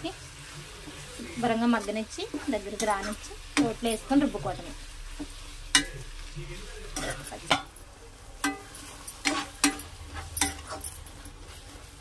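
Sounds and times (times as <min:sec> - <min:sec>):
spatula stirring in a pan: 0:00.0 - 0:12.0.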